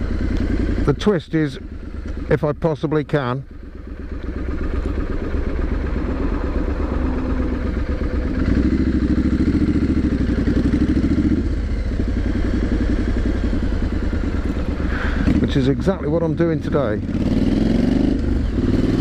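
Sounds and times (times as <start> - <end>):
motorcycle engine and exhaust running: 0.0 - 19.0.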